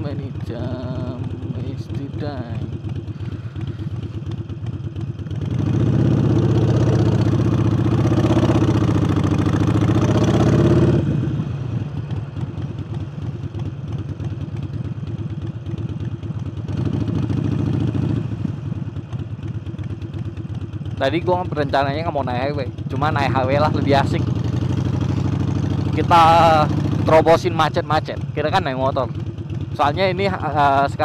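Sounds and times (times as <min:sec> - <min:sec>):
motorcycle engine under throttle: 0:00.0 - 0:31.0.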